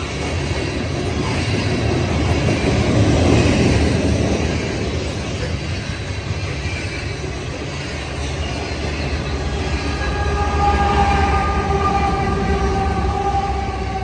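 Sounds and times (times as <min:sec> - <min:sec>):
diesel locomotive passing: 0:00.0 - 0:14.0
freight train wheels rumbling: 0:00.0 - 0:14.0.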